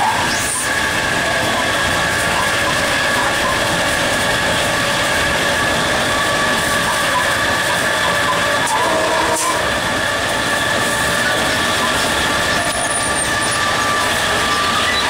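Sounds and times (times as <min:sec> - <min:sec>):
high whine: 0:00.0 - 0:15.0
locomotive engine drone: 0:00.0 - 0:15.0
wheels running on rails: 0:00.0 - 0:15.0.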